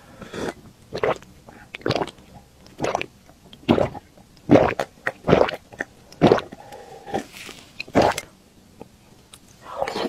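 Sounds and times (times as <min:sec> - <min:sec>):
person gulping a drink: 0:00.2 - 0:08.3.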